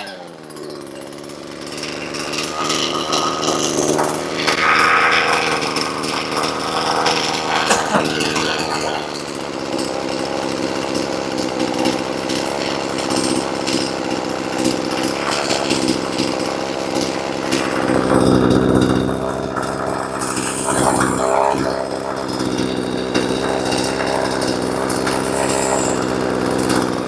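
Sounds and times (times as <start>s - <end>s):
chainsaw engine running: 0.0s - 27.0s.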